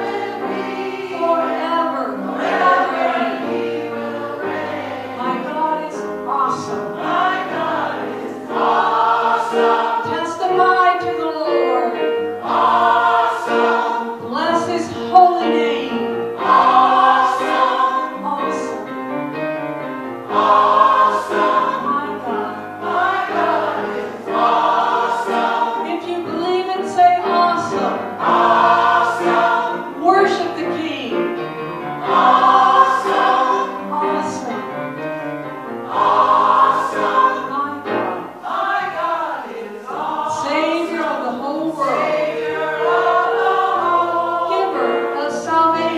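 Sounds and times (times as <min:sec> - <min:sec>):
gospel choir singing: 0:00.0 - 0:45.9.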